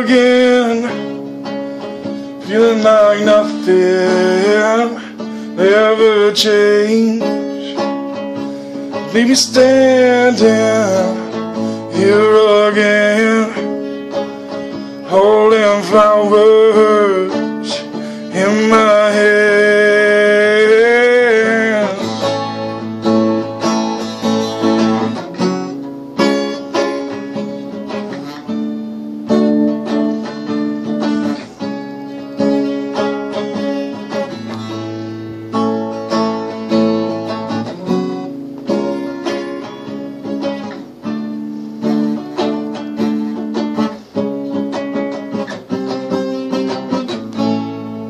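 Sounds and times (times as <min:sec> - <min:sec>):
acoustic guitar chords: 0:00.0 - 0:48.0.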